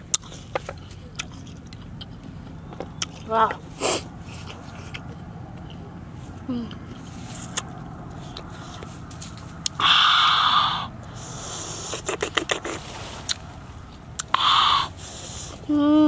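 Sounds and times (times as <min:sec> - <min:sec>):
crunchy chewing: 0:00.0 - 0:09.8, 0:11.1 - 0:15.7.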